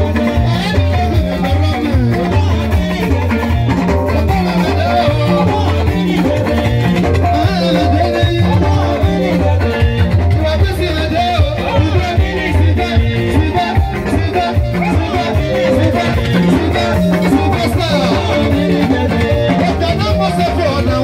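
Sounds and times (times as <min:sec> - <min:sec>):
bass guitar line: 0:00.0 - 0:21.0
drum kit: 0:00.0 - 0:21.0
electric guitars: 0:00.0 - 0:21.0.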